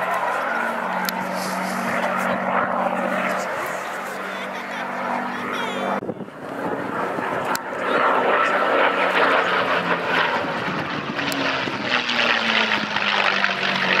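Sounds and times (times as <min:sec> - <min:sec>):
propeller plane flying overhead: 0:00.0 - 0:14.0.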